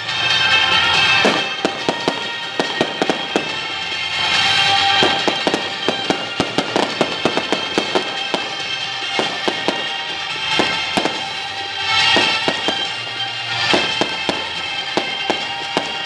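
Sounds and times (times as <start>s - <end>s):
fireworks popping and crackling: 0.0s - 16.0s
music playing: 0.0s - 16.0s.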